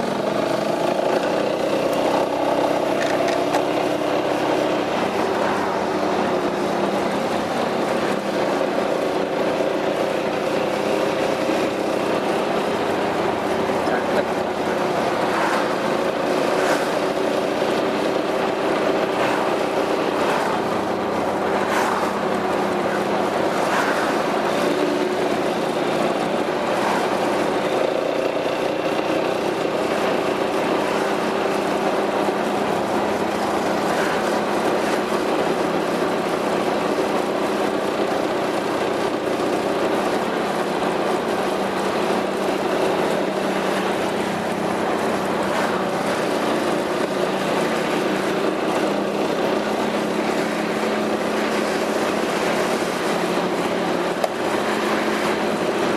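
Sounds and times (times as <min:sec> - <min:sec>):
scooter engine running: 0:00.0 - 0:55.9.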